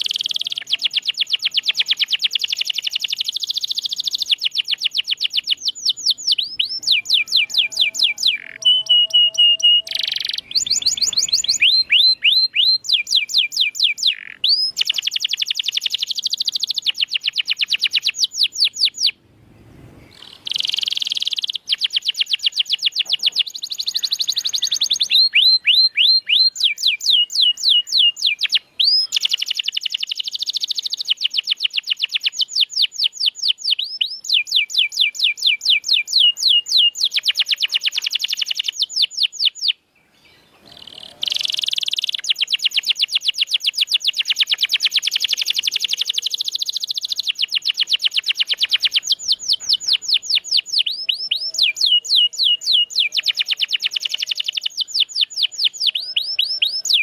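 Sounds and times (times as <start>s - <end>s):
canary singing rapid trills: 0.0s - 19.2s, 20.1s - 39.8s, 40.6s - 57.0s.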